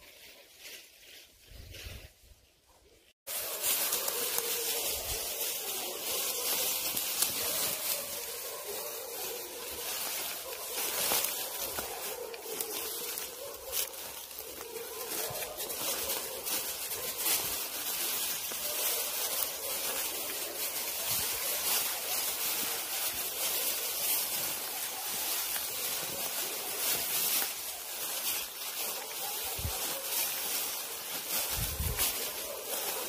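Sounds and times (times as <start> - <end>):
footsteps through dry grass: 0.0 - 2.6, 3.2 - 33.0.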